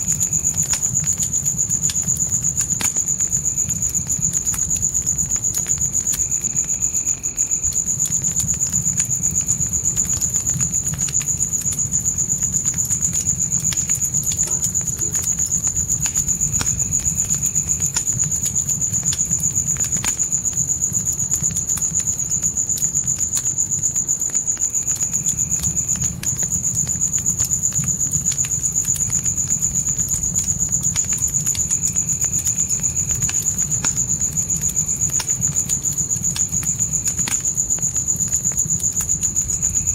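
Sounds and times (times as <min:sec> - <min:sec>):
crickets trilling: 0:00.0 - 0:39.9
fire crackling and popping: 0:00.0 - 0:39.9.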